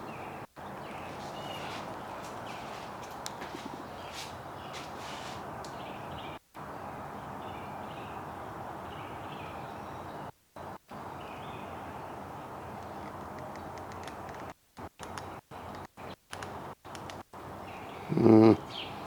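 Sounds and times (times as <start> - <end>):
sparrows chirping: 0.0 - 13.8, 17.4 - 19.0.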